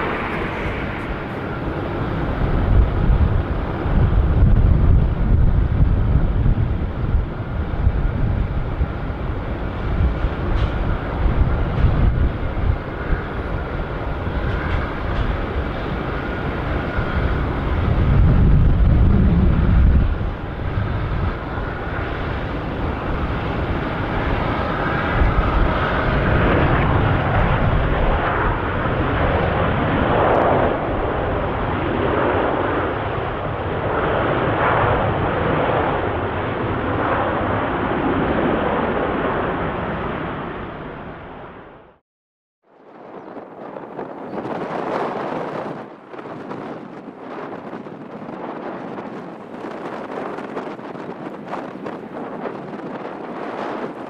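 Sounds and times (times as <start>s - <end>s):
jet airliner landing rumble: 0.0s - 42.0s, 42.6s - 54.0s.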